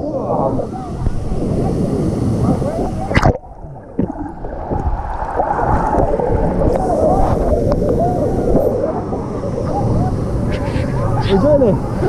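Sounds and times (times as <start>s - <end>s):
many overlapping voices: 0.0s - 3.9s, 5.9s - 12.0s
wind buffeting microphone: 0.0s - 12.0s.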